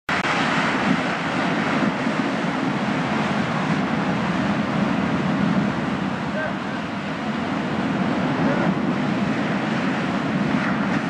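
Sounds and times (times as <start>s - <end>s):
surf breaking on boulder beach: 0.1s - 11.0s.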